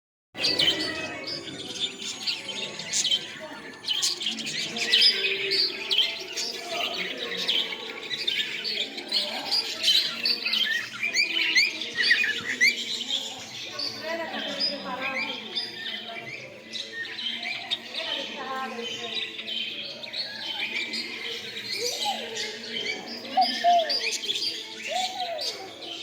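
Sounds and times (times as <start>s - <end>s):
small birds chirping: 0.4s - 26.0s.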